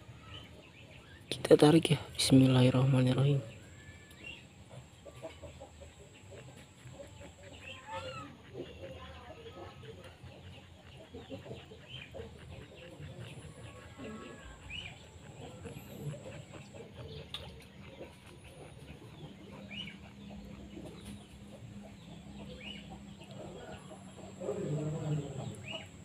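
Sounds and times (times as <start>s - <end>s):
faint bird chirps and clucks: 0.0s - 26.0s.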